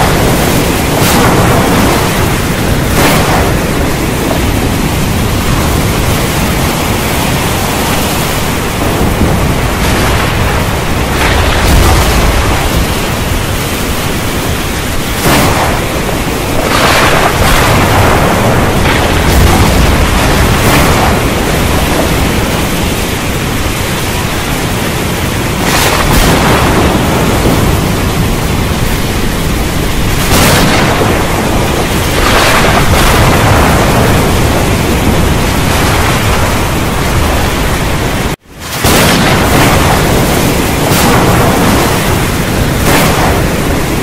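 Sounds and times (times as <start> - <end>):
heavy rain falling: 0.0 - 44.0
thunder rumbling: 0.0 - 44.0.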